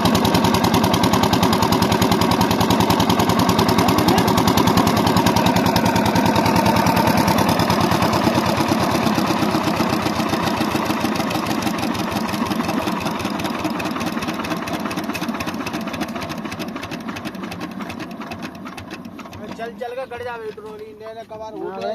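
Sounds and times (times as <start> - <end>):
diesel engine driving water pump: 0.0 - 21.9.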